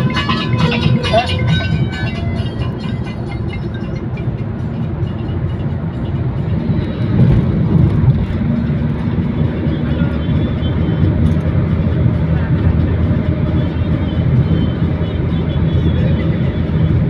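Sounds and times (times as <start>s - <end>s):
road and engine rumble inside car: 0.0s - 17.0s
truck passing: 0.0s - 17.0s.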